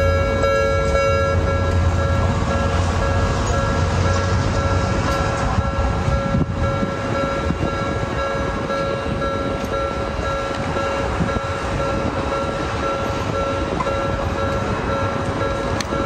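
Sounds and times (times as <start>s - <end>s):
steady high tones: 0.0s - 16.0s
tram rumbling: 0.0s - 16.0s.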